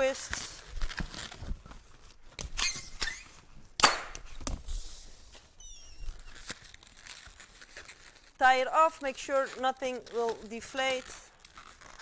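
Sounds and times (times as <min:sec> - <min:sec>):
balloons squeaking and rubbing: 0:00.0 - 0:03.7, 0:05.5 - 0:12.0.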